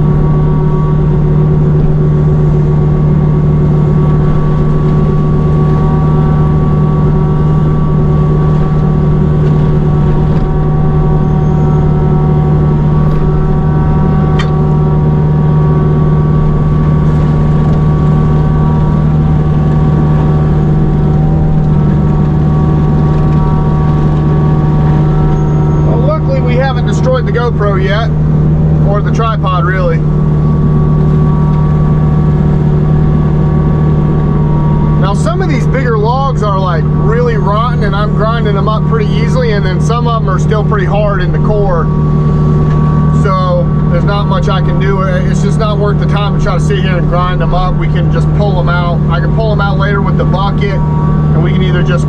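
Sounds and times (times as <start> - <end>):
excavator engine hum: 0.0 - 52.0
hydraulic mulcher whine: 0.0 - 52.0.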